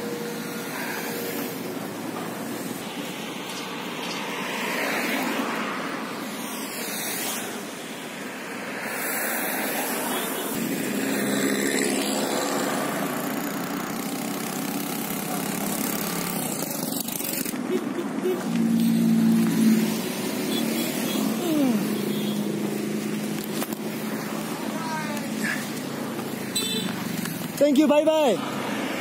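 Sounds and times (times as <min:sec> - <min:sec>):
motorbikes and cars passing: 0:00.0 - 0:29.0.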